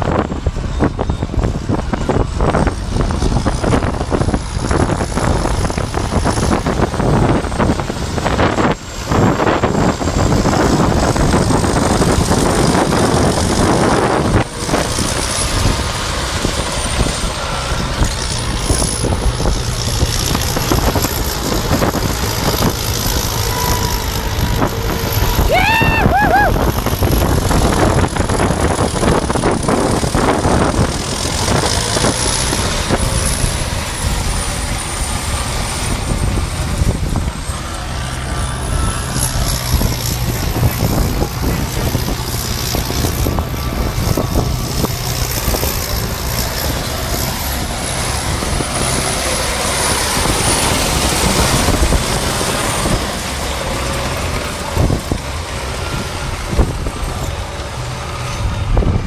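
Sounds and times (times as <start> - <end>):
thin high whine: 0.0 - 59.0
tractor diesel engine under load: 0.0 - 59.0.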